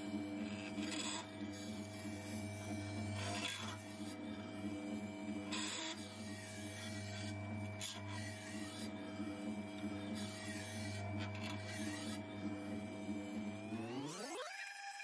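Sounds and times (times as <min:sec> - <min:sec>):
sharpening machine motor humming: 0:00.0 - 0:15.0.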